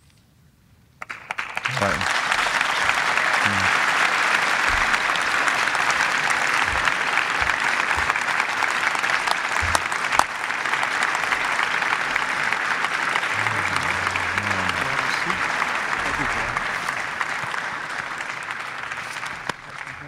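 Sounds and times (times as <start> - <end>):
audience applauding: 1.0 - 20.0.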